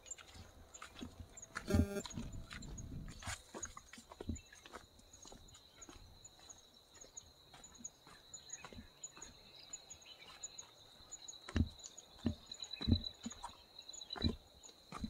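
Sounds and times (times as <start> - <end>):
footsteps on dirt trail: 0.0 - 15.0.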